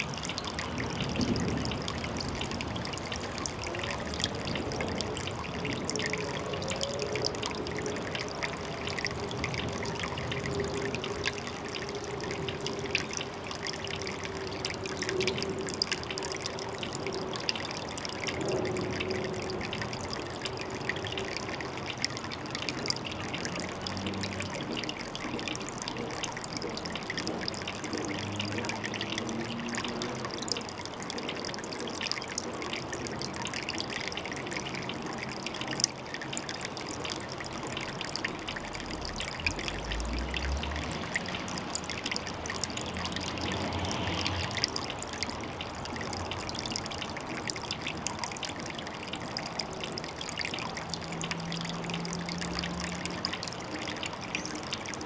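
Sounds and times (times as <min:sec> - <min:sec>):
water trickling at a pond: 0:00.0 - 0:55.0.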